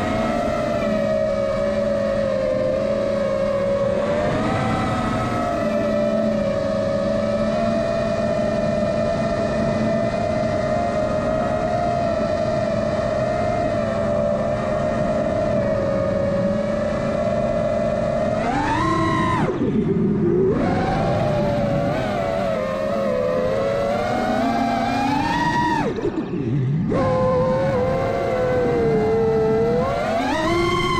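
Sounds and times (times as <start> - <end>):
rc aircraft motor whine: 0.0 - 30.9.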